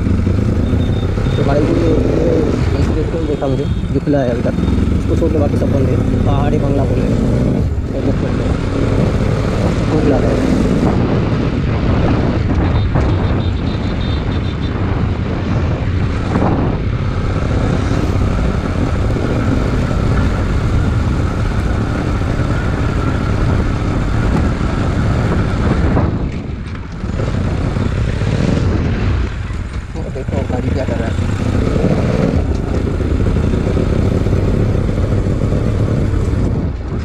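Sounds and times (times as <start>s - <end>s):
motorcycle engine running: 0.0s - 37.0s
wind rush on microphone: 0.0s - 37.0s.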